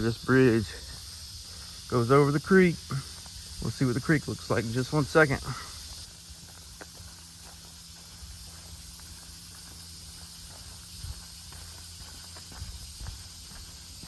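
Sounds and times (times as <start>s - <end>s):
high-pitched outdoor hiss: 0.0s - 14.0s
faint footsteps: 0.6s - 14.0s.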